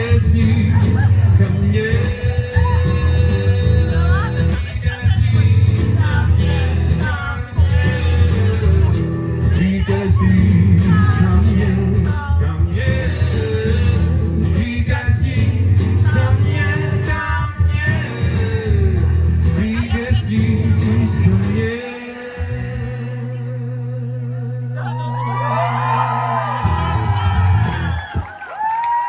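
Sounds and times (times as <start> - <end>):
man singing: 0.0 - 27.8
acoustic guitar and bass: 0.0 - 28.3.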